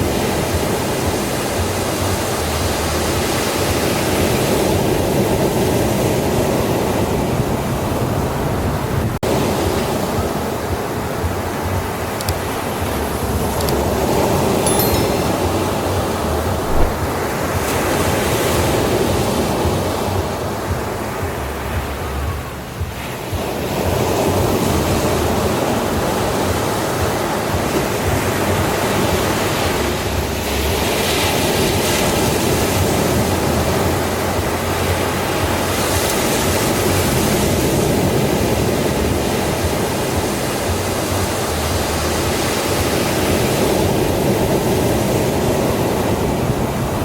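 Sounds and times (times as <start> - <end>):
ocean waves breaking on beach: 0.0 - 47.0.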